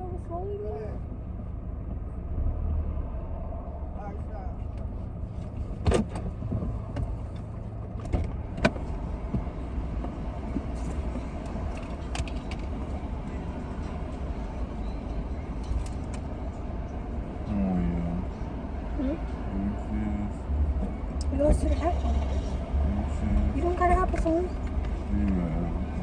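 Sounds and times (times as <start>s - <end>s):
car rumble inside cabin: 0.0s - 26.0s.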